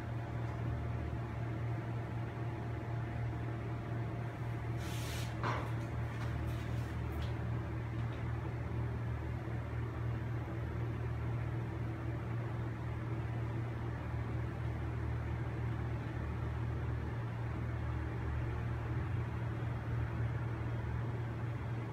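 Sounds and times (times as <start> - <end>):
low electric hum: 0.0 - 21.9.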